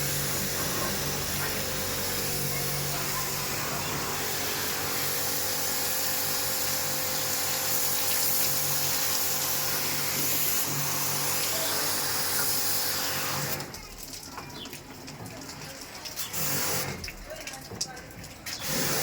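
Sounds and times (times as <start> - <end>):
water spray hissing: 0.0 - 14.0, 15.5 - 17.6, 18.4 - 19.0
pump motor hum: 0.0 - 19.0.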